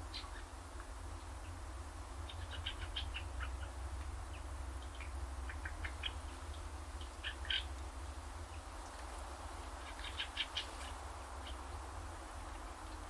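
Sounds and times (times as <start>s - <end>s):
small birds chirping: 0.0s - 0.6s, 2.2s - 13.0s
low steady rumble: 0.0s - 13.0s.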